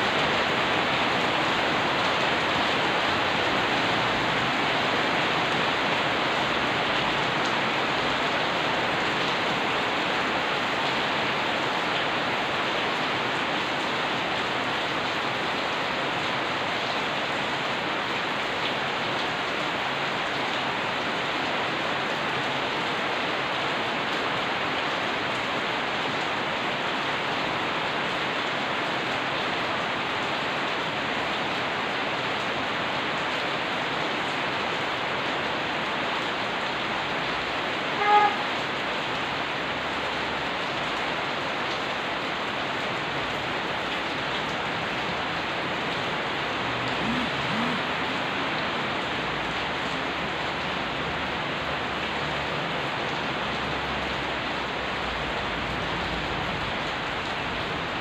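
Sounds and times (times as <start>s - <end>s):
rain falling on pavement: 0.0s - 58.0s.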